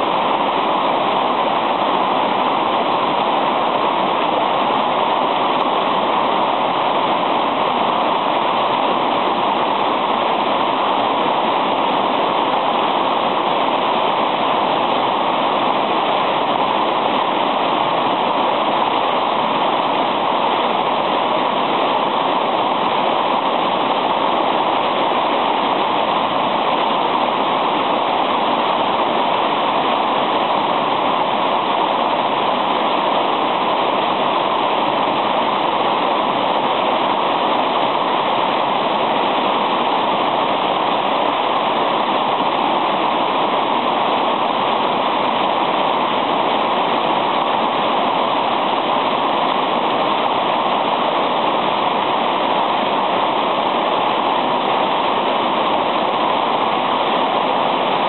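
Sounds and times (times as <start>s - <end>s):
small waterfall splashing: 0.0s - 58.0s.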